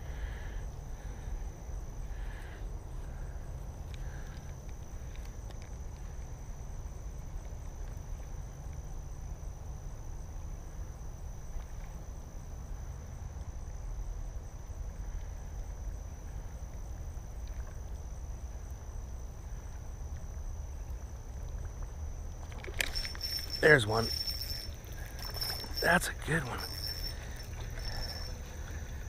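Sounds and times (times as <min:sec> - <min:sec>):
insects buzzing: 0:00.0 - 0:29.0.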